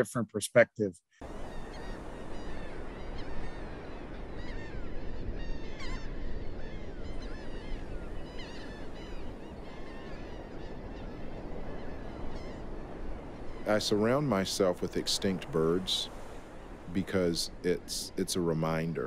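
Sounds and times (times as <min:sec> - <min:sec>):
flock of birds calling: 0:01.3 - 0:17.3.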